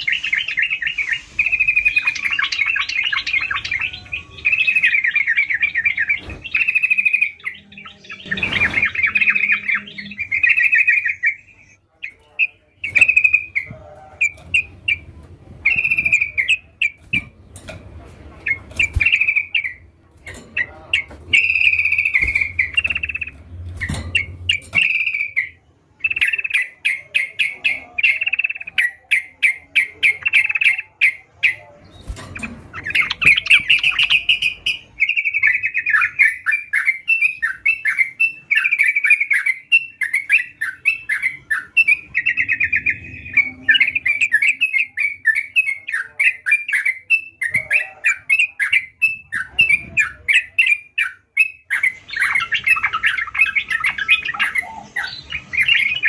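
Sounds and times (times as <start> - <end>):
bulbul chattering song: 0.0 - 17.3, 18.4 - 56.0.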